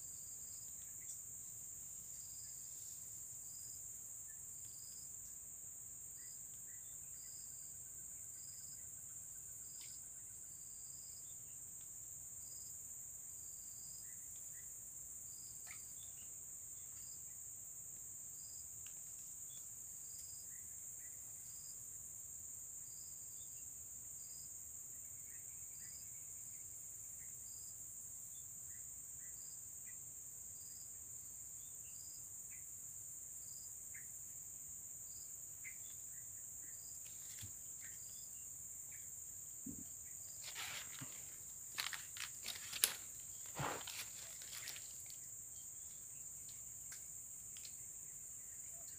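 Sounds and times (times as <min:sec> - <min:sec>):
insect high chirp: 0:00.0 - 0:48.9.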